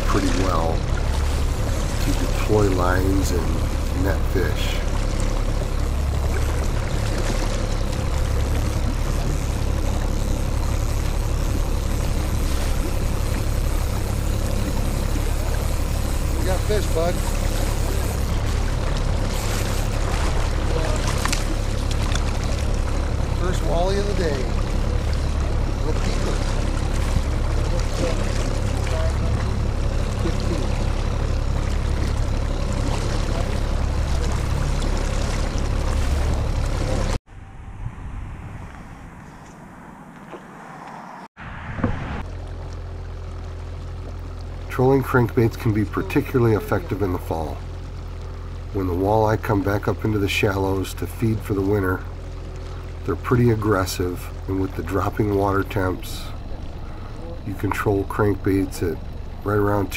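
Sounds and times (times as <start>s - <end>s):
outboard motor running: 0.0s - 37.6s, 42.0s - 59.9s
boat engine droning: 0.0s - 59.9s
wind and water hiss: 0.0s - 59.9s.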